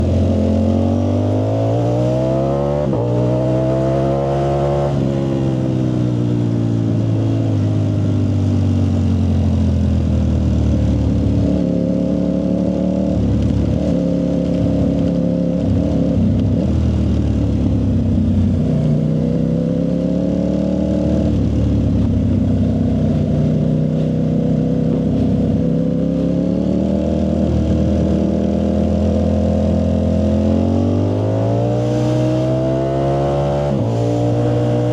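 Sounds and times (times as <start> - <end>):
loud motorcycle engine: 0.0 - 34.9.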